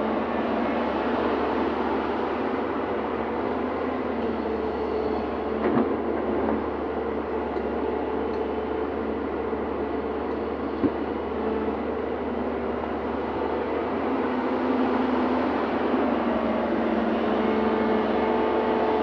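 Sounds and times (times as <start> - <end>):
excavator running: 0.0 - 19.0.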